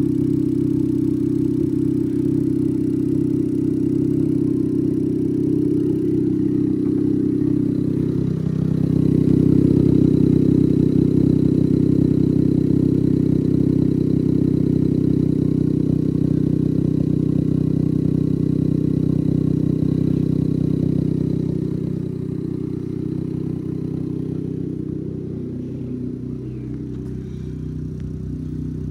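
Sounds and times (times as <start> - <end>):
small car engine idling: 0.0 - 28.9.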